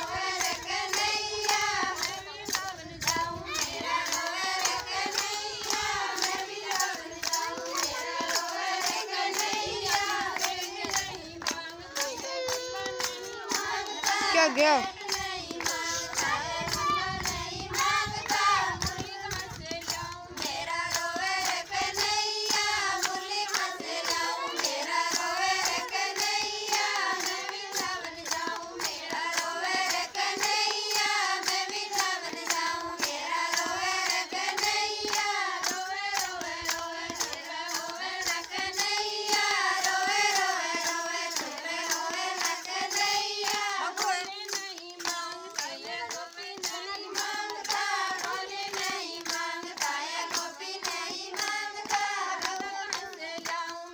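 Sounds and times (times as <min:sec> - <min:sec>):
hand-clapping in time: 0:00.0 - 0:53.9
women singing devotional song: 0:00.0 - 0:53.9.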